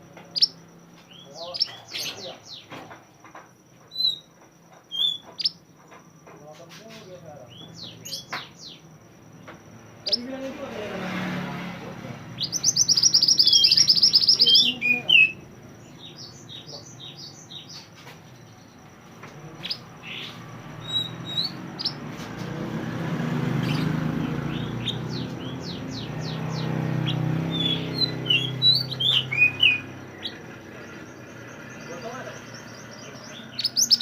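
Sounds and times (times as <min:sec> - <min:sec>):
bird trilling and chirping: 0:00.2 - 0:03.0, 0:03.8 - 0:06.2, 0:06.8 - 0:10.9, 0:11.8 - 0:34.0.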